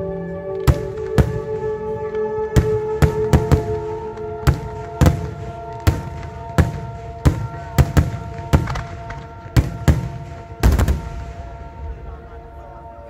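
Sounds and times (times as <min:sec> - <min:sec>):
fireworks bursting with sharp bangs: 0:00.6 - 0:12.1.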